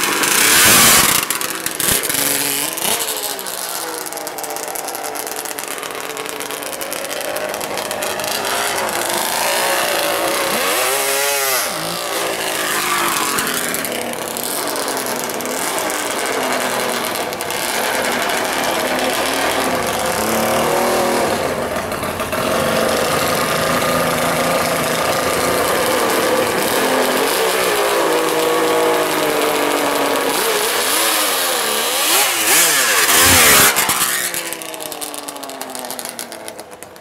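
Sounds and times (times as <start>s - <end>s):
two-stroke motorcycle engine revving: 0.0s - 37.0s.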